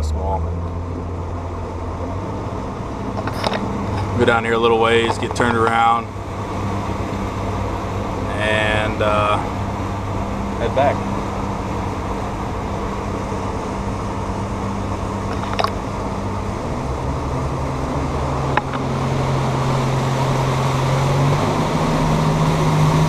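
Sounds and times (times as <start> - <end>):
outboard motor running: 0.0 - 23.0
water rushing over hull: 0.0 - 23.0
wind: 0.0 - 23.0.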